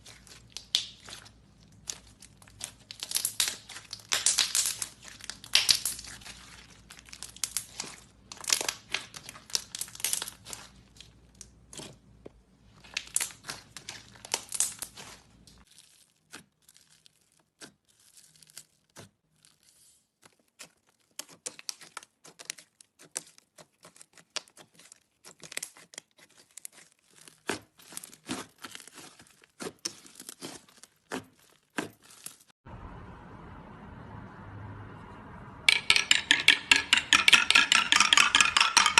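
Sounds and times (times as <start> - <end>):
slime crackling and popping: 0.0 - 32.5.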